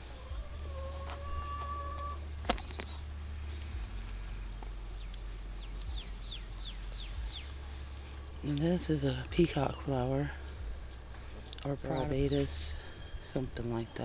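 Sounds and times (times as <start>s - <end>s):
bird singing high notes: 0.0s - 14.0s
steady low rumble: 0.0s - 14.0s.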